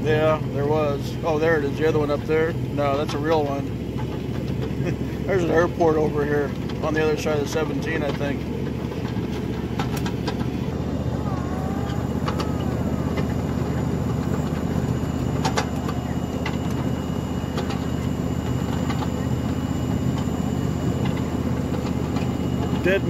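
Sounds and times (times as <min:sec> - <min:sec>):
low steady tones: 0:00.0 - 0:23.0
miniature train rumbling: 0:00.0 - 0:23.0.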